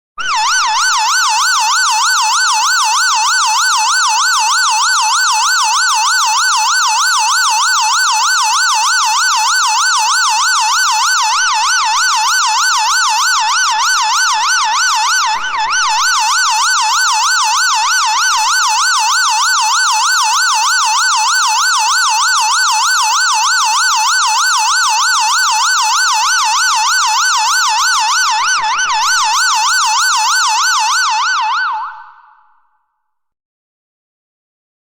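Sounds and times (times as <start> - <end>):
electronic siren yelping: 0.2 - 32.6.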